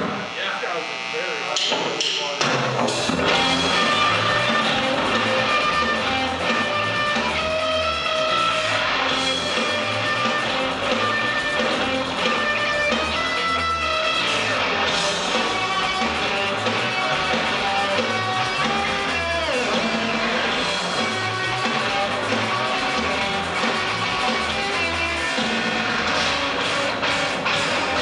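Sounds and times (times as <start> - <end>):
live rock band playing: 1.4 - 28.0
guitar note sliding down: 3.0 - 28.0.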